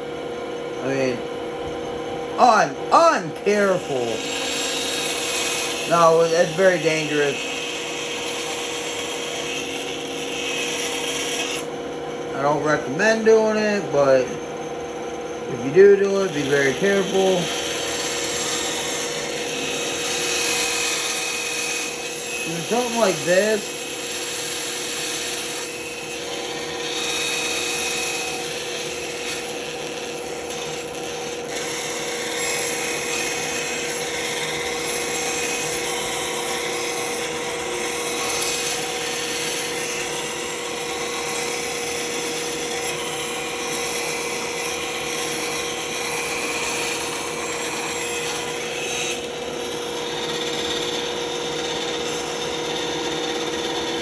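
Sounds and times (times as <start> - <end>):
band saw cutting: 0.0 - 54.0.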